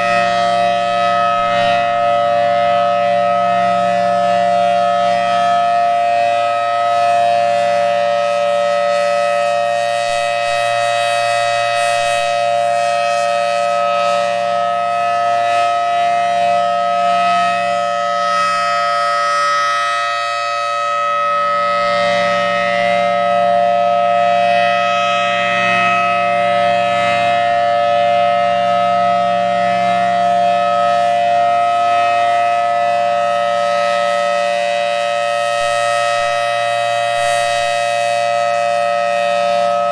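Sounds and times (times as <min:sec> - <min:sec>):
warning siren held tone: 0:00.0 - 0:39.9.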